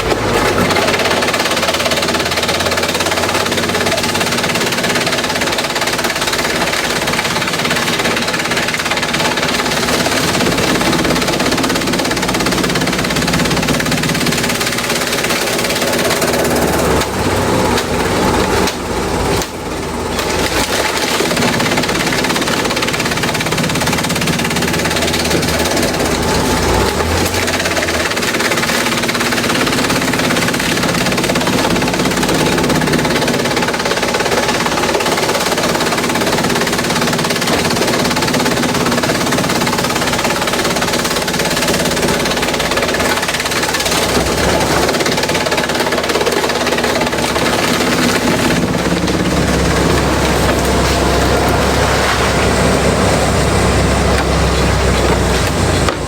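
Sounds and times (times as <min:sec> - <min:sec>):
shredder clattering and grinding: 0:00.0 - 0:56.0.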